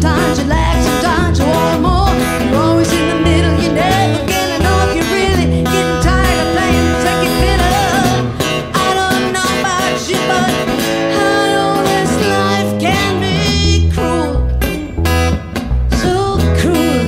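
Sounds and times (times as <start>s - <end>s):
electric bass: 0.0s - 17.0s
person singing: 0.0s - 17.0s
strummed acoustic guitar: 0.0s - 17.0s.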